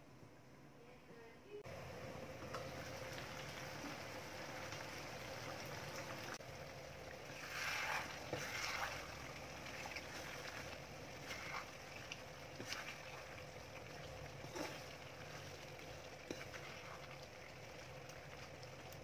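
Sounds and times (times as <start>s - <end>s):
curry bubbling in a pot: 1.7s - 19.0s.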